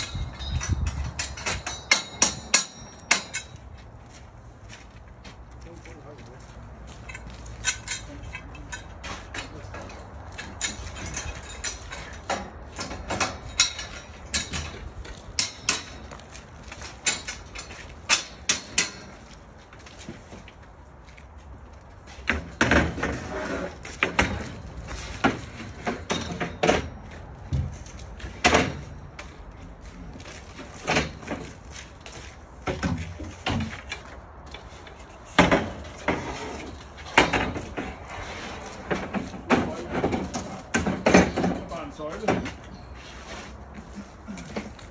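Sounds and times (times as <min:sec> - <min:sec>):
metal scaffolding tubes clanking: 0:00.0 - 0:04.2, 0:06.8 - 0:20.5, 0:22.1 - 0:44.9.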